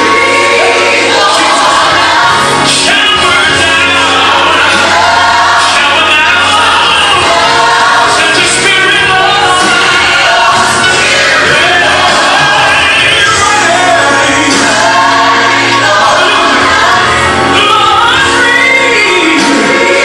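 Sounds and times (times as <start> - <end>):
gospel choir singing with band: 0.0 - 20.0.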